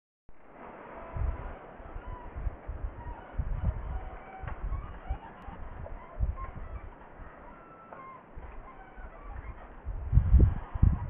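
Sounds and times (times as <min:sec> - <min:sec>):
wind buffeting microphone: 0:00.8 - 0:07.5, 0:08.2 - 0:11.0.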